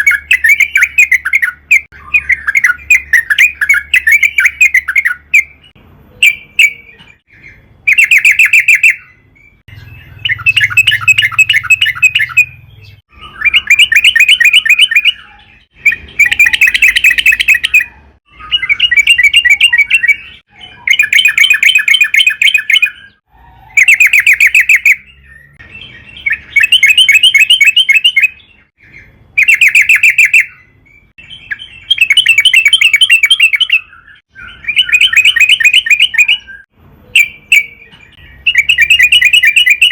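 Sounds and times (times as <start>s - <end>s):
bulbul singing chattered notes: 0.0s - 39.9s.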